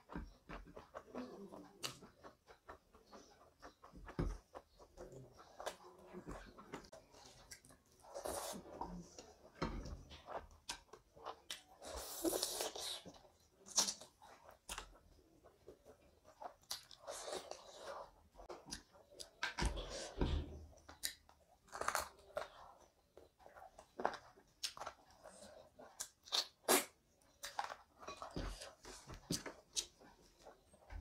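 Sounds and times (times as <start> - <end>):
chewing with wet mouth sounds: 0.0 - 31.0.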